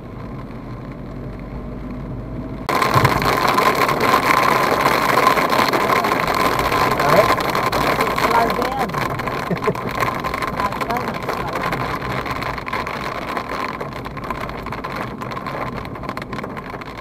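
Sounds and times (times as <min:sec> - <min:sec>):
car engine and tyres on wet road: 0:00.0 - 0:17.0
raindrops ticking on roof: 0:02.7 - 0:17.0.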